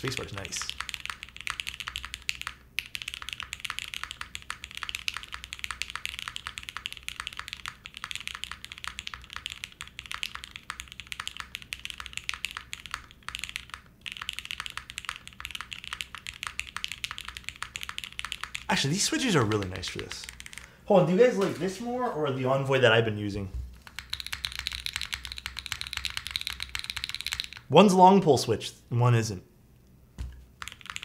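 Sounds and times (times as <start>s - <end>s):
keyboard keystroke clacks: 0.0s - 20.7s, 23.8s - 27.7s, 30.2s - 31.0s.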